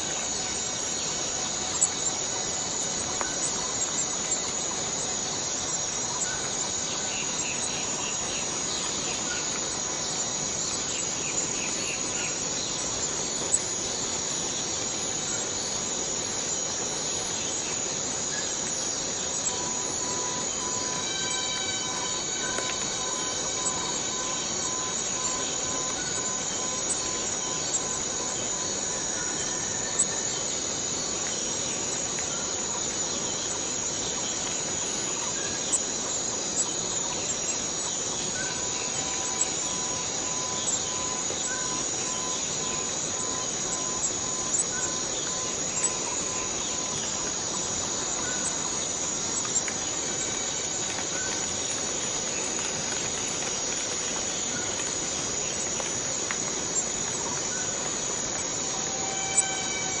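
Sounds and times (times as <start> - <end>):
cicadas droning: 0.0 - 60.0.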